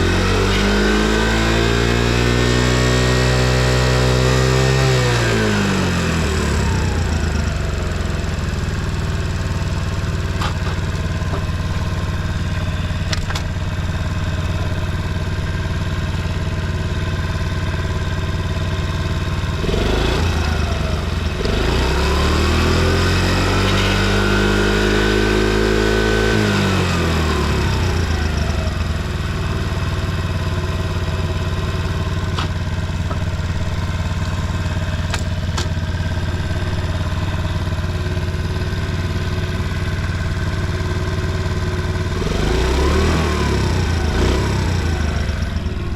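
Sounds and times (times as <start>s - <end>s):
small engine idling and revving: 0.0s - 45.9s.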